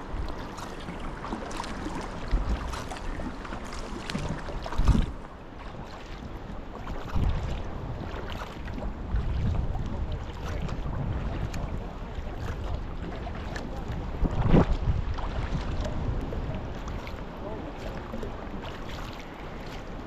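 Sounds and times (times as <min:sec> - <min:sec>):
wind buffeting microphone: 0:00.0 - 0:05.2, 0:05.8 - 0:20.0
paddle strokes dripping in water: 0:00.0 - 0:20.0.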